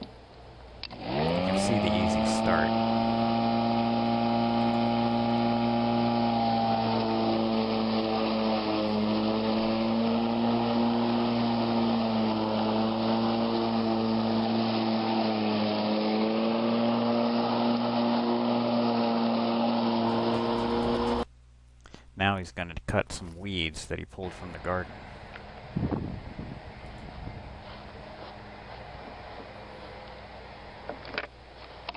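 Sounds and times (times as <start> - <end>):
electric lawn mower running: 0.0 - 21.3, 24.3 - 31.9.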